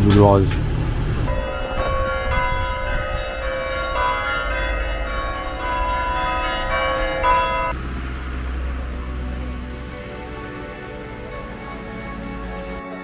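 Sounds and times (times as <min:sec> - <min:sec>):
church bells ringing: 0:01.3 - 0:13.0.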